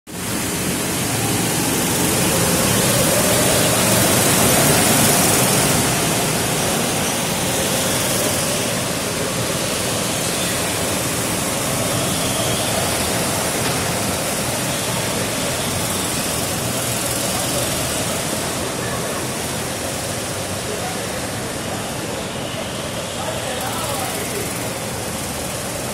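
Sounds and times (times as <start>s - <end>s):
go-kart engines droning: 0.1s - 25.9s.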